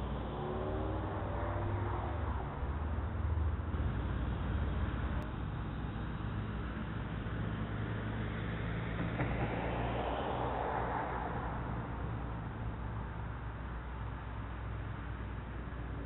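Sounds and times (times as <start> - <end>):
distant road traffic: 0.0 - 16.0.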